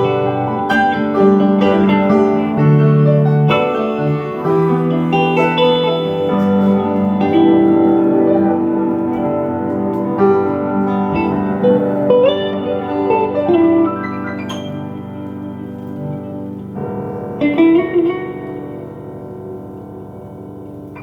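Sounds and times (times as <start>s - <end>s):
slow instrumental music: 0.0s - 21.0s.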